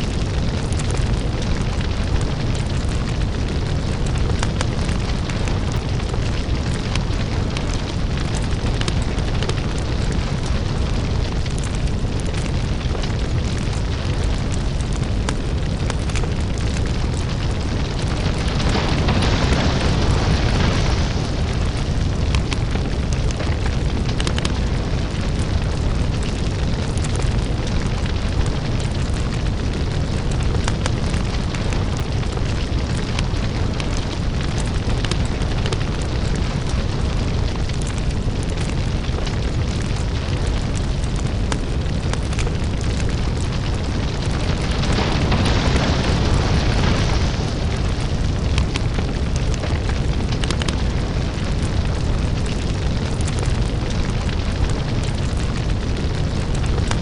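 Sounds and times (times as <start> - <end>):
lava crackling and popping: 0.0 - 57.0
lava rumbling: 0.0 - 57.0.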